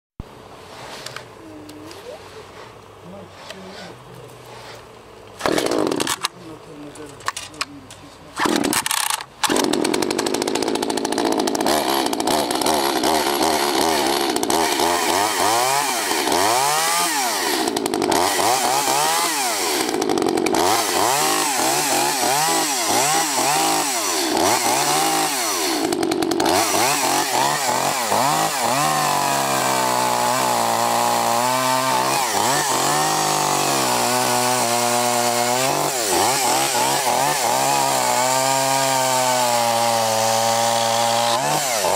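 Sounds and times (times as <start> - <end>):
chainsaw engine revving: 3.4 - 6.4, 8.3 - 41.9.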